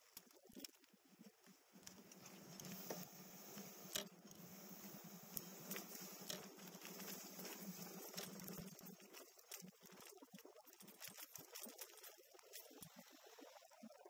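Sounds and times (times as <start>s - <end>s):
small clicks and knocks: 0.0s - 12.9s.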